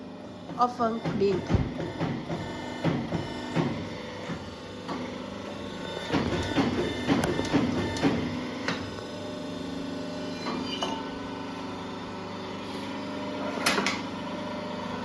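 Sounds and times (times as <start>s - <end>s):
workshop machine humming: 0.0s - 15.0s.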